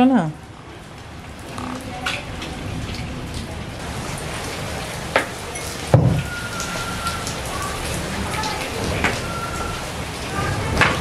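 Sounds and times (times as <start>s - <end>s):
rain splashing on tiled floor: 0.0s - 11.0s.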